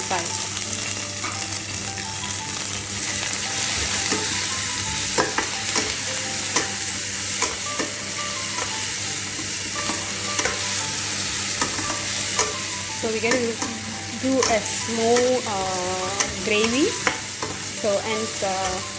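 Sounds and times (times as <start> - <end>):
vegetables sizzling in a hot pan: 0.0 - 18.9.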